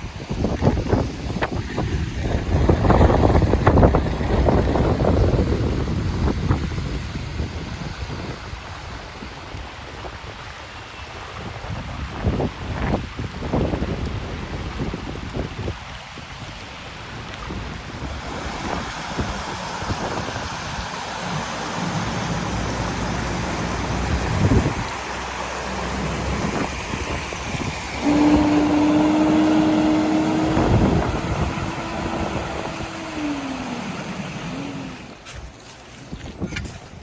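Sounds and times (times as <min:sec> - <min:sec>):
traffic: 0:00.0 - 0:09.8, 0:16.6 - 0:36.6
wind: 0:00.0 - 0:37.0.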